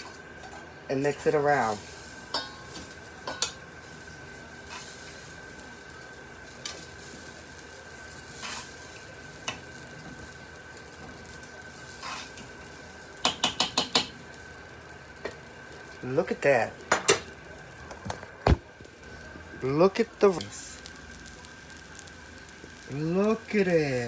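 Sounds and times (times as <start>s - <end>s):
low sizzle: 0.0s - 24.0s.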